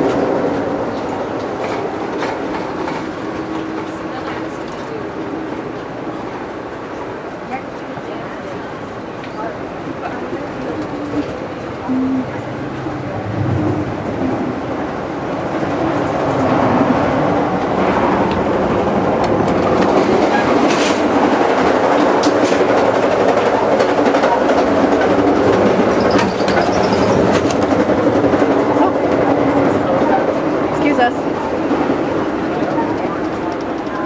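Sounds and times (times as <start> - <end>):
rail clicks: 0.0 - 6.5, 9.1 - 34.0
train wheels rumbling on rail: 0.0 - 34.0.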